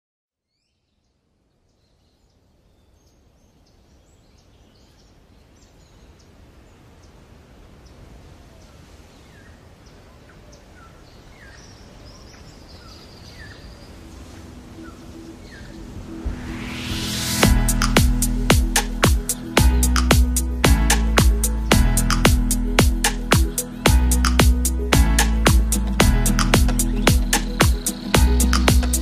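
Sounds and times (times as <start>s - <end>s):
outdoor background noise: 0.4s - 29.0s
small birds chirping: 0.5s - 16.2s, 18.6s - 29.0s.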